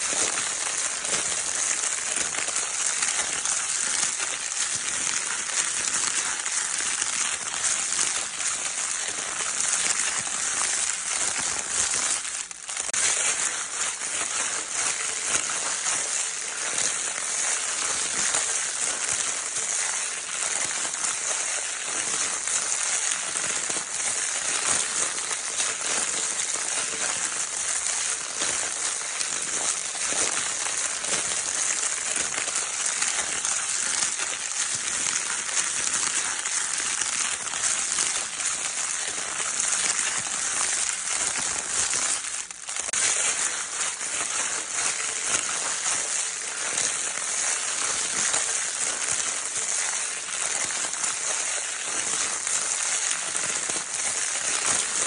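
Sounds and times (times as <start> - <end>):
crinkle paper toy rustling: 0.0 - 55.0.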